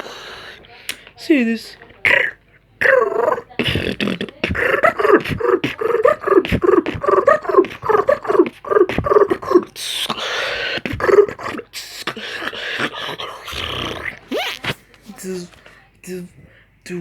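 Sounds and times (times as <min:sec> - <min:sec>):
person beatboxing: 0:00.0 - 0:01.2, 0:01.9 - 0:15.4.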